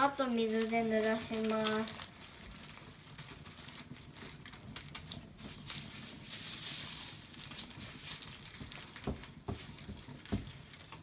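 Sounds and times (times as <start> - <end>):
wet newspaper rustling: 0.0 - 11.0.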